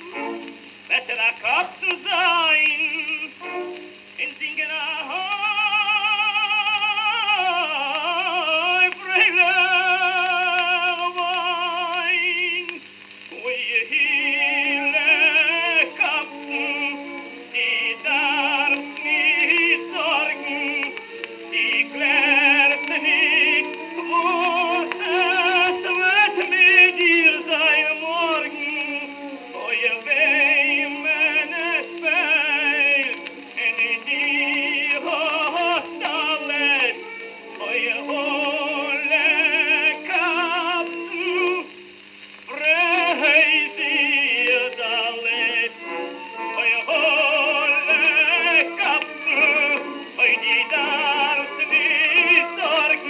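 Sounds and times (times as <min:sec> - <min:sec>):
man singing with vibrato: 0:00.0 - 0:53.0
record hiss: 0:00.0 - 0:53.0.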